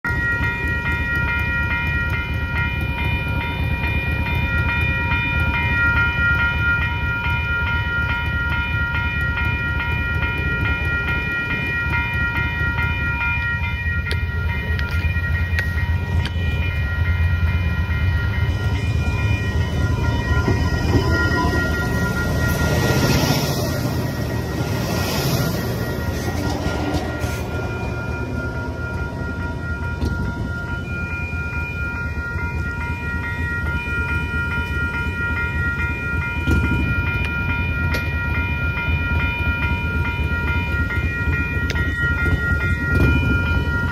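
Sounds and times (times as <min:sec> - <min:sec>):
diesel railcar passing: 0:00.0 - 0:43.9
level crossing bells ringing: 0:00.0 - 0:43.9.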